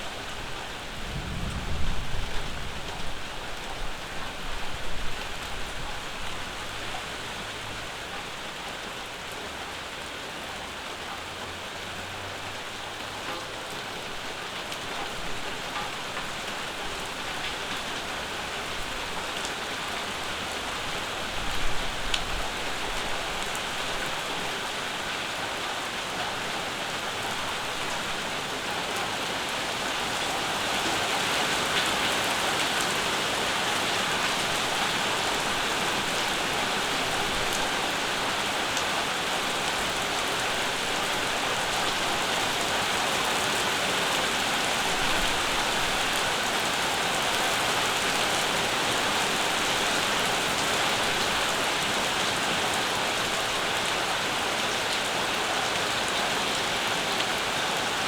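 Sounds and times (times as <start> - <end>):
rain pattering on surfaces: 0.0 - 58.0.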